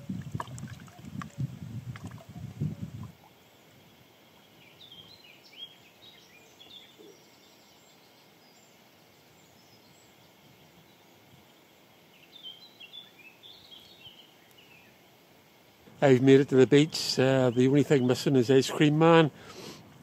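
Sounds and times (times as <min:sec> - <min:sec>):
faint songbird chirps: 0:00.0 - 0:19.6
steady background hiss: 0:00.0 - 0:20.0.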